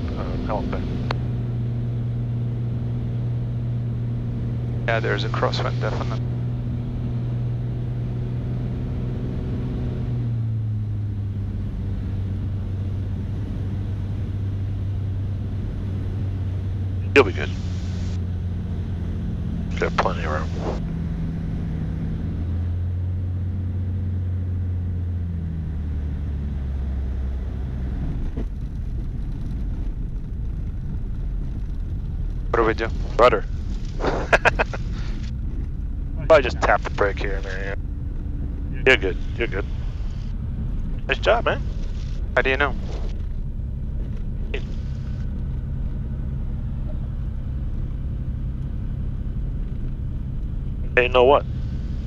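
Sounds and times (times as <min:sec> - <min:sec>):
propeller plane engine drone: 0:00.0 - 0:52.0.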